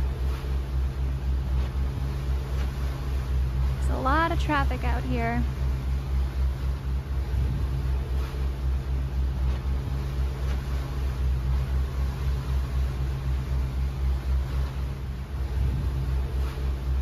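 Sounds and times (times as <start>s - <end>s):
boat diesel engine droning: 0.0s - 17.0s.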